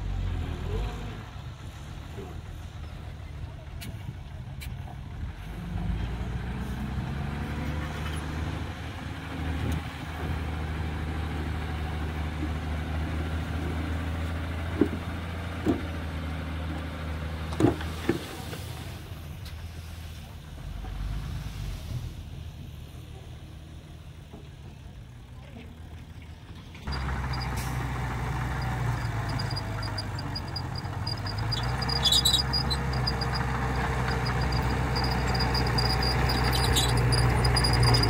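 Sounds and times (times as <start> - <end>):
diesel truck engine revving: 0.0 - 3.7, 4.4 - 24.0, 26.9 - 38.0.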